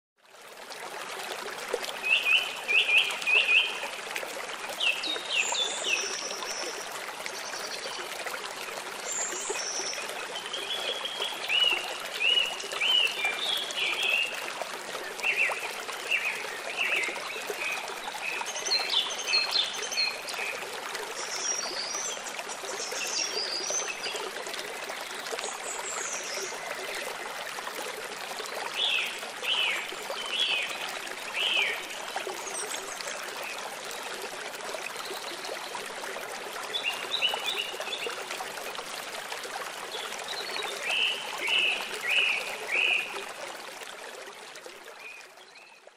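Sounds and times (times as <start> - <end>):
stream trickling over rocks: 0.2 - 45.9.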